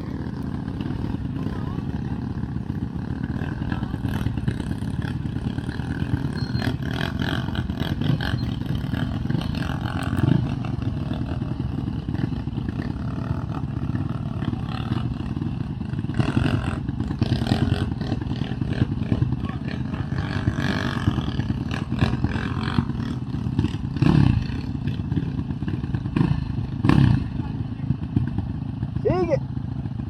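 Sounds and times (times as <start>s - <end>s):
quad engine running: 0.0s - 30.0s.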